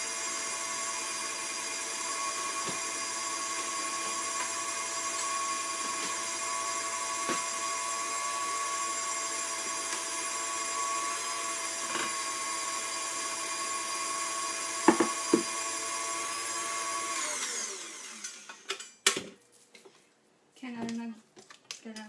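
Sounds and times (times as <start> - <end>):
stand mixer motor whining: 0.0 - 18.6.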